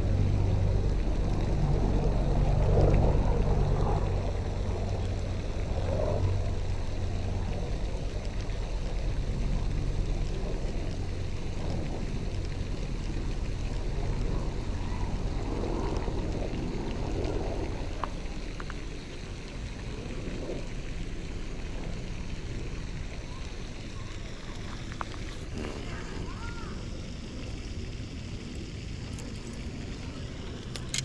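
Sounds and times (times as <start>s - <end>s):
faint hiss: 0.0s - 31.0s
low outdoor rumble: 0.0s - 31.0s.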